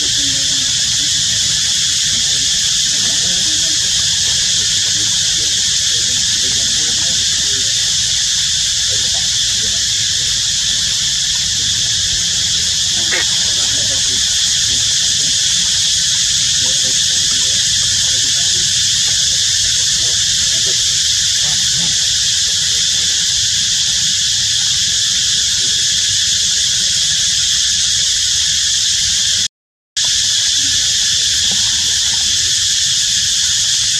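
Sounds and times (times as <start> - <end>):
high-pitched insect drone: 0.0 - 29.4, 30.0 - 33.9.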